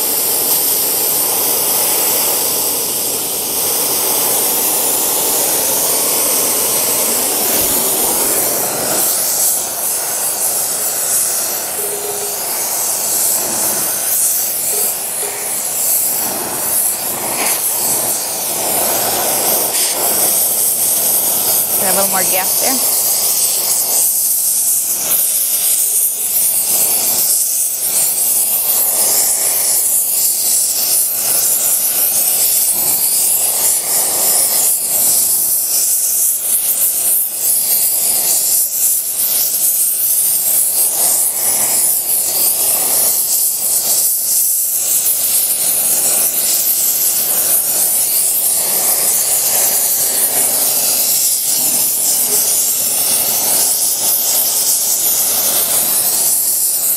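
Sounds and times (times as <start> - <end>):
gas torch flame hissing: 0.0 - 56.9.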